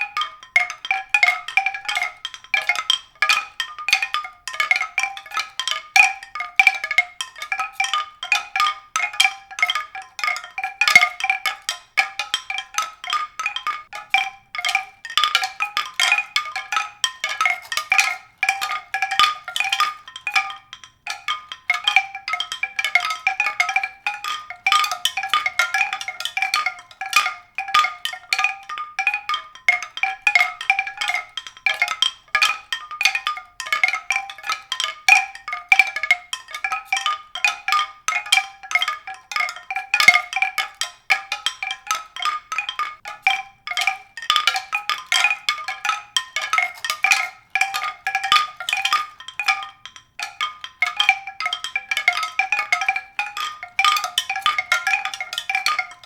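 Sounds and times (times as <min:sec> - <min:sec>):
mallet percussion melody: 0:00.0 - 0:56.0.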